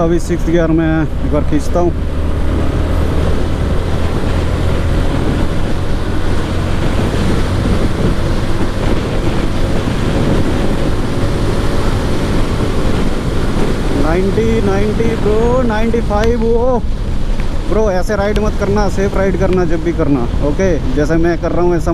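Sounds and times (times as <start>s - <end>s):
motorcycle engine pulling hard: 0.3s - 19.8s
wind noise on microphone: 1.9s - 21.9s.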